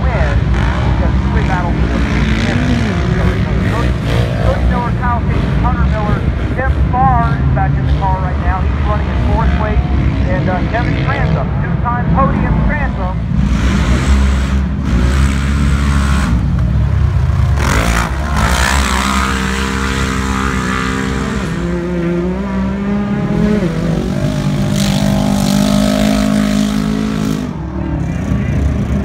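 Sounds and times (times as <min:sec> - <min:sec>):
loud rush of noise: 0:00.0 - 0:29.0
utv engine revving: 0:00.0 - 0:29.0.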